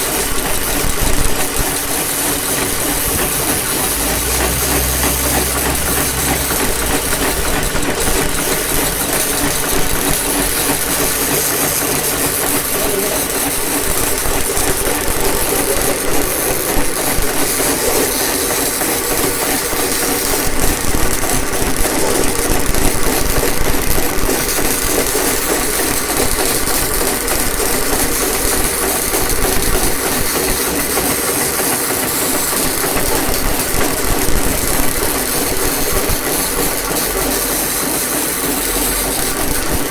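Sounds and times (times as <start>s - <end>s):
machine running: 0.0s - 39.9s.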